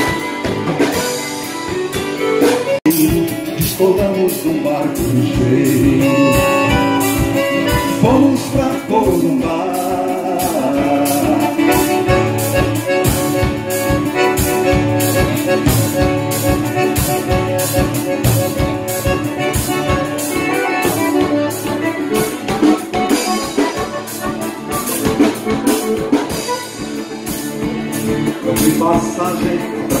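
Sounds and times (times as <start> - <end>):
accordion: 0.0 - 30.0
acoustic guitar: 0.0 - 30.0
drum kit beat: 0.0 - 30.0.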